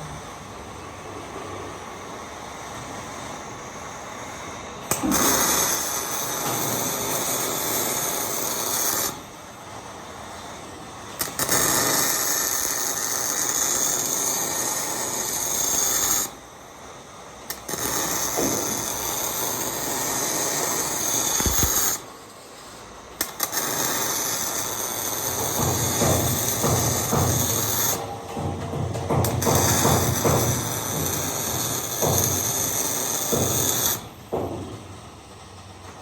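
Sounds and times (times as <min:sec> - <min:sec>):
welding arc crackling and buzzing: 0:02.2 - 0:16.5, 0:17.4 - 0:22.3, 0:23.2 - 0:36.0.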